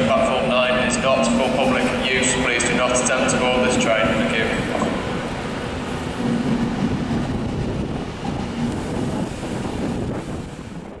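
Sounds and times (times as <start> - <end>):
train rumbling into station: 0.0 - 11.0.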